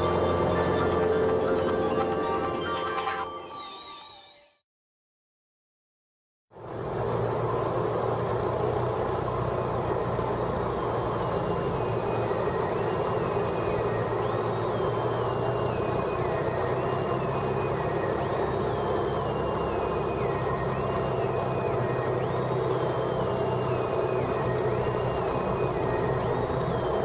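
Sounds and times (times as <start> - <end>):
propeller plane engine droning: 0.0 - 3.2, 6.5 - 27.0.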